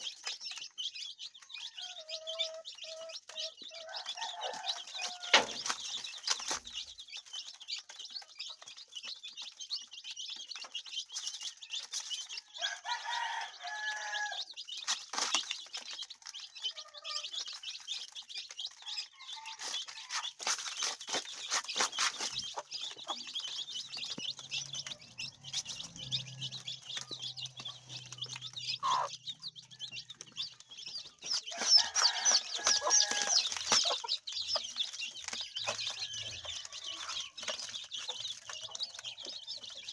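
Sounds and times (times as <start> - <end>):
chickens clucking: 0.0 - 39.9
constant high chirping: 0.0 - 39.9.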